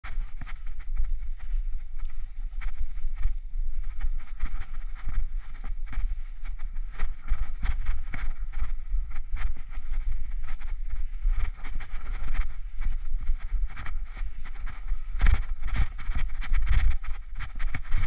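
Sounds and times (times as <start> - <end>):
wind rumble on microphone: 0.0 - 18.0
bicycle rattling and clicking: 0.1 - 18.0.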